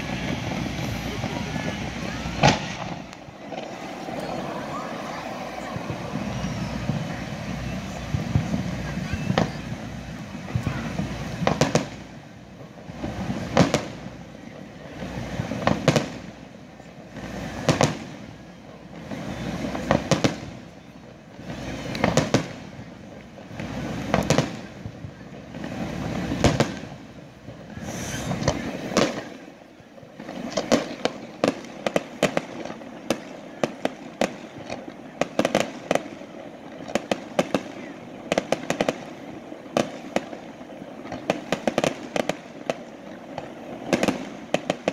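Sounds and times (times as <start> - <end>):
firework shells bursting: 0.0 - 14.3, 21.5 - 24.9, 25.6 - 44.9
rapid sharp firework cracks: 0.0 - 44.9.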